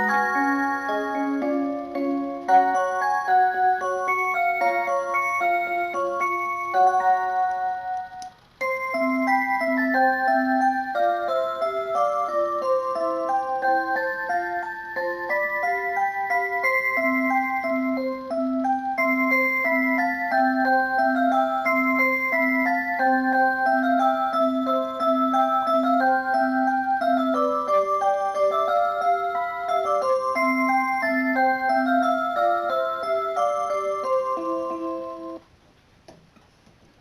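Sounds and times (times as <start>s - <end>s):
alarm clock electronic melody: 0.0s - 35.4s.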